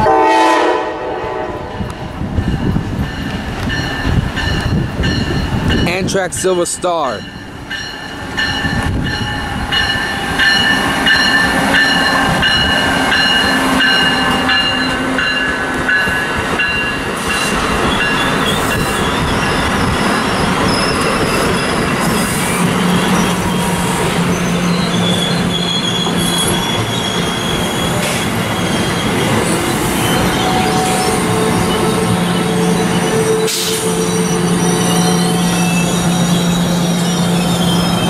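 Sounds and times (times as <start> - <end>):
train cars rumbling: 0.0 - 38.0
train wheels squealing on rails: 2.4 - 38.0.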